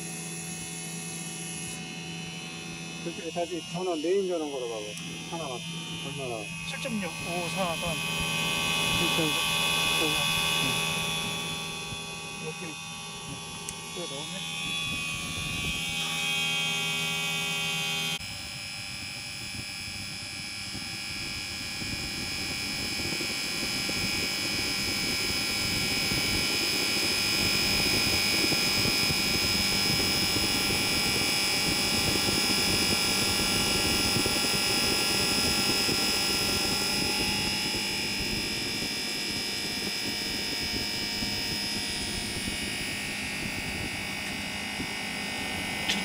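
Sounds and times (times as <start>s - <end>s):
air conditioner unit whirring: 0.0s - 46.0s.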